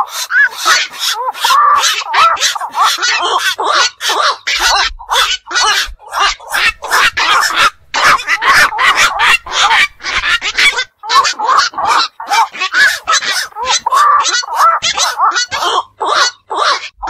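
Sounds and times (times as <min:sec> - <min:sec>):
herons squawking: 0:00.0 - 0:17.0.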